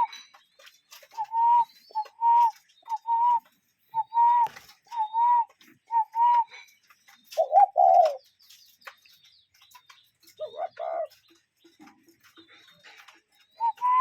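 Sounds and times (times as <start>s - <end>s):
cuckoo calling: 0.0s - 8.3s, 9.7s - 11.4s, 12.6s - 14.0s
high bird chirps: 0.0s - 14.0s.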